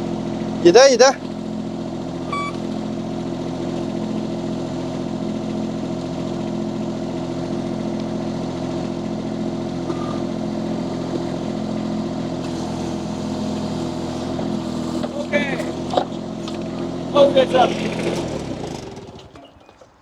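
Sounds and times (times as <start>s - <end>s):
loader engine droning: 0.0s - 20.0s.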